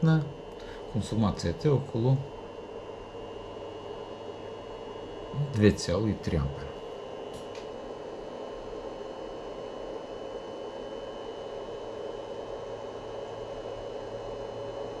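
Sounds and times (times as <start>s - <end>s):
inverter whirring with whine: 0.0s - 15.0s.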